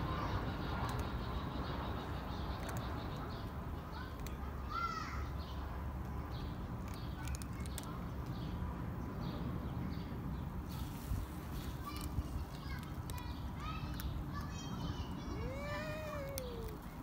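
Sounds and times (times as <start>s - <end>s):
low outdoor background hum: 0.0s - 17.0s.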